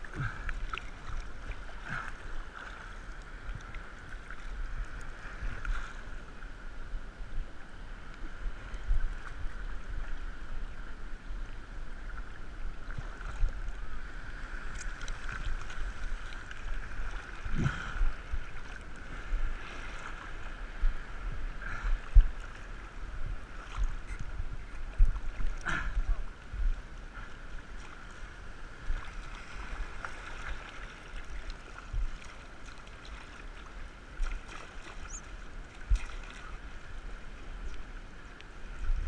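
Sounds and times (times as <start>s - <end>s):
muffled surf sloshing: 0.0s - 39.0s.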